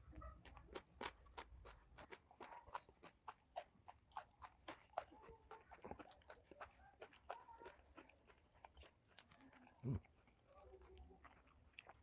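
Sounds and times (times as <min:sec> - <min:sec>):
person chewing food: 0:00.5 - 0:12.0.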